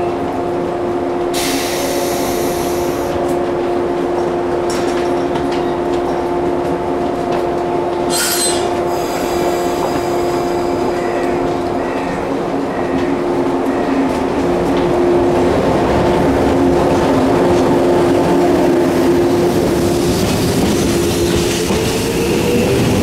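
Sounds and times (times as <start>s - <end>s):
train electrical hum: 0.0s - 23.0s.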